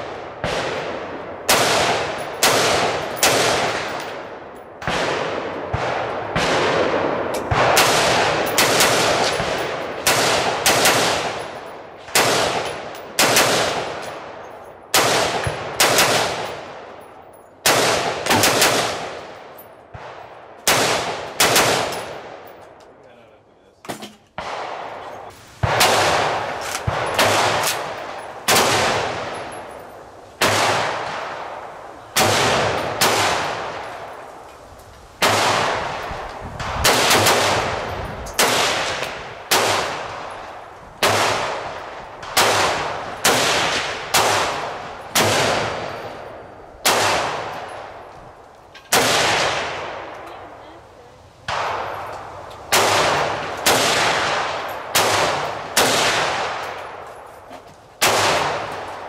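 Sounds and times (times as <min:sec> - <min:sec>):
gunshots with echo: 0:00.0 - 0:17.0, 0:17.6 - 0:22.5, 0:24.4 - 0:34.4, 0:35.2 - 0:48.1, 0:48.9 - 0:50.2, 0:51.5 - 0:57.1, 0:58.0 - 0:59.0.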